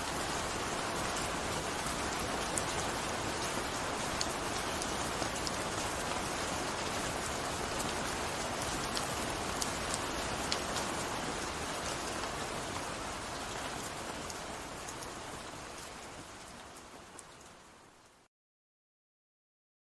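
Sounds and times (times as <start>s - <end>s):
gentle steady rain: 0.0s - 18.3s.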